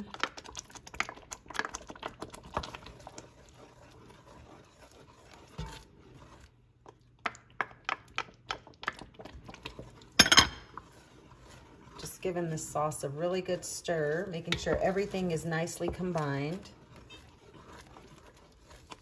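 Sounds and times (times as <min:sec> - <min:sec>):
wooden spoon stirring sauce in pot: 0:00.0 - 0:19.0.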